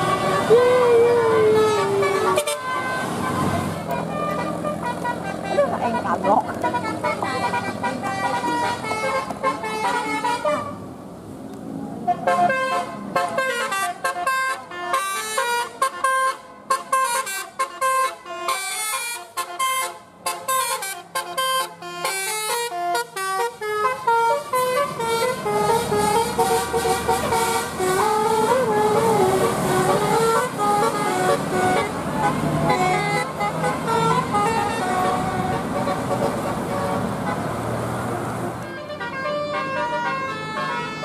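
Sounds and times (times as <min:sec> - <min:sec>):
bus air horn tune: 0:00.0 - 0:10.8, 0:12.0 - 0:37.7, 0:38.5 - 0:41.0.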